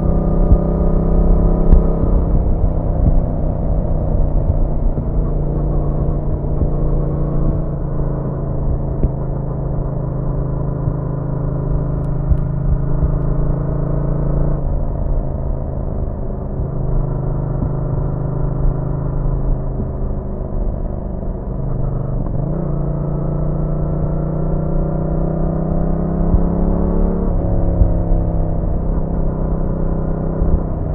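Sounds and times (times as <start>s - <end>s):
motorcycle engine cruising: 0.0s - 30.9s.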